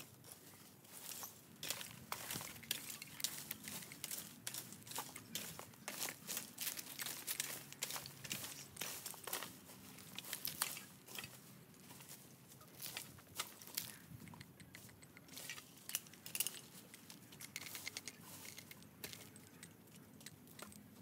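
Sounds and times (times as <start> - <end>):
raking dry leaves and twigs: 0.0 - 21.0.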